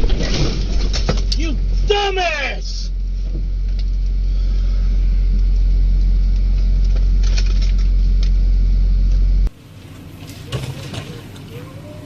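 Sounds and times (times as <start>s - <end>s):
vehicle driving rumble: 0.0s - 12.0s.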